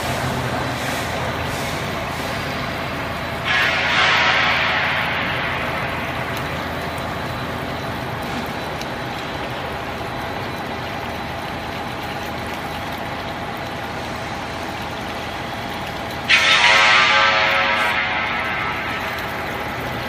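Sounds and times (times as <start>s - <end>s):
faint machine whine: 0.0s - 20.0s.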